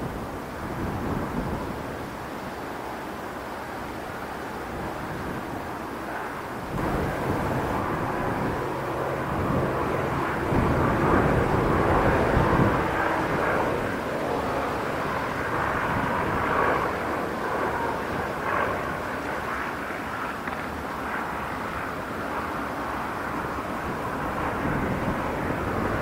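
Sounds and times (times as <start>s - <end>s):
jet engine rumble and hiss: 0.0s - 26.0s.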